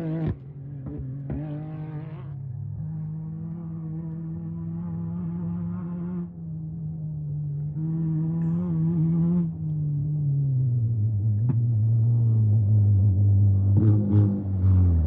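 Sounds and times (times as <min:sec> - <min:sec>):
race vehicle engine: 0:00.0 - 0:15.0.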